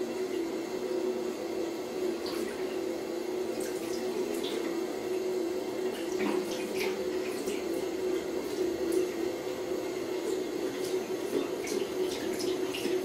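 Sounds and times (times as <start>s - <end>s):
faucet water running into sink: 1.7s - 13.0s.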